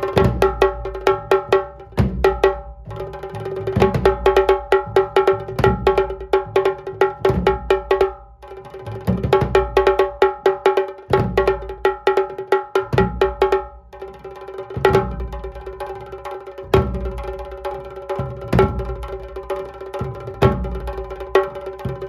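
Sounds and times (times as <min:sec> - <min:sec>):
deep drum beats: 0:00.0 - 0:15.9, 0:16.6 - 0:22.0.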